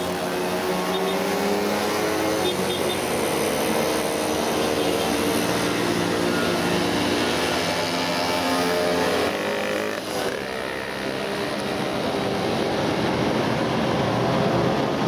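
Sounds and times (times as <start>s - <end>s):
moped engines buzzing: 0.0s - 15.0s.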